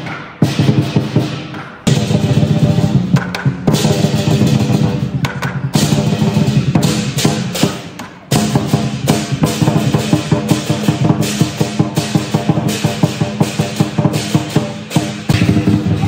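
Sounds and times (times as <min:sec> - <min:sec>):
cymbals clashing: 0:00.0 - 0:16.0
drum beating fast rhythm: 0:00.0 - 0:16.0.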